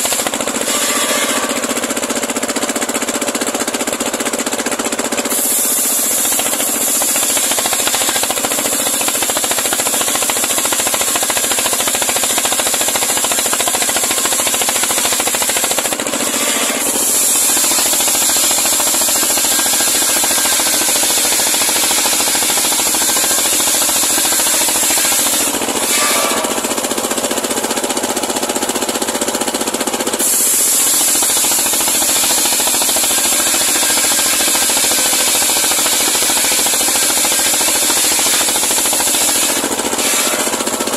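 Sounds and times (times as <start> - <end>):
circular sawmill cutting log: 0.0 - 40.9.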